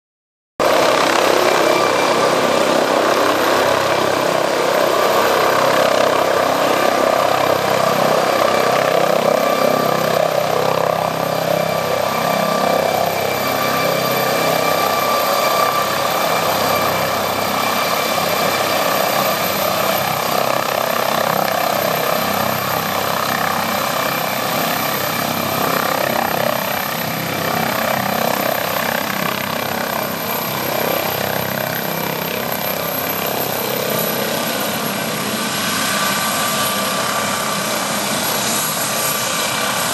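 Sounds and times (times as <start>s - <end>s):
helicopter engines and rotor: 0.6s - 39.9s.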